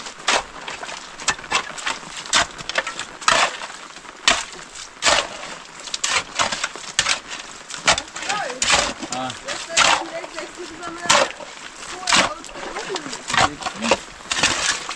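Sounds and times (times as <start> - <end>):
shovel digging wet soil: 0.0 - 14.9.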